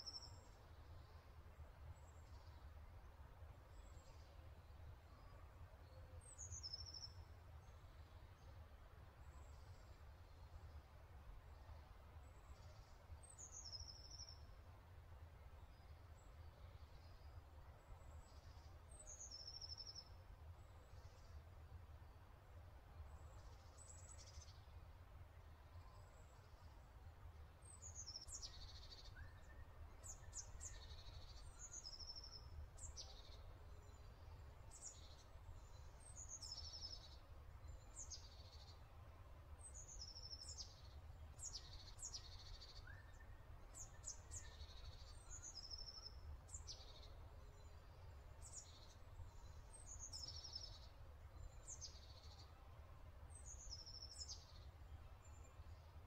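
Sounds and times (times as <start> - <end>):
faint birdsong: 0.0 - 56.0.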